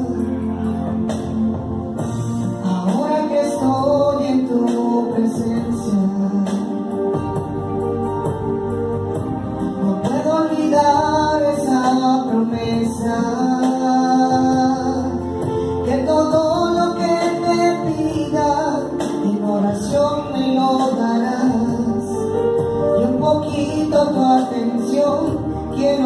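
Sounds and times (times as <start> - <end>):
electronic keyboard: 0.0 - 26.0
woman singing into a microphone: 2.6 - 7.5, 9.8 - 26.0.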